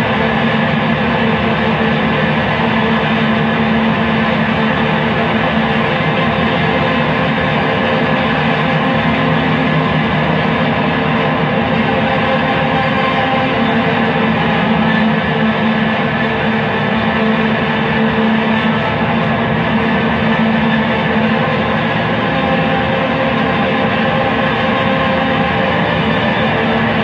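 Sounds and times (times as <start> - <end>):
distorted guitar drone: 0.0 - 27.0.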